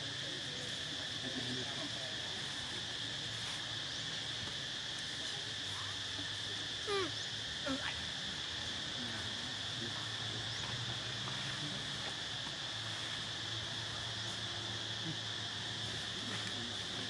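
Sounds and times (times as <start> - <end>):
forest insects chorus: 0.0 - 17.0.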